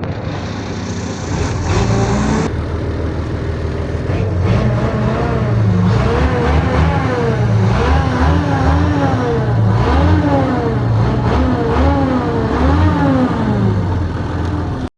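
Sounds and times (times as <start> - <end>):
truck engine revving: 0.0 - 14.9.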